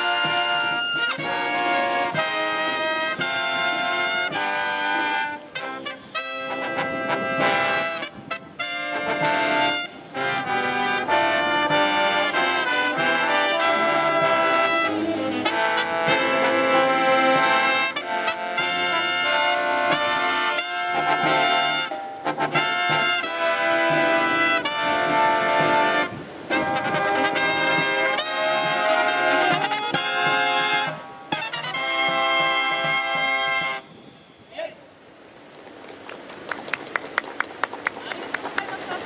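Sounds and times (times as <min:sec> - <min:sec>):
marching brass band: 0:00.0 - 0:34.2.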